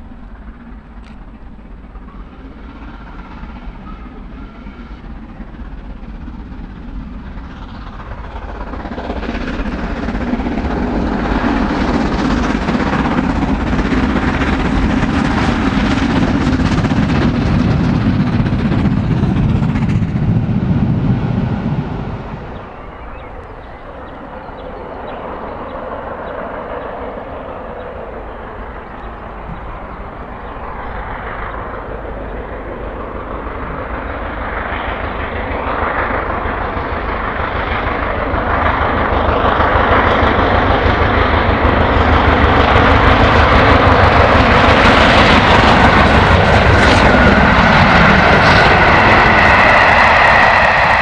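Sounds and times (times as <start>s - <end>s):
steam locomotive hauling train: 0.0s - 51.0s
train rolling past: 0.0s - 51.0s.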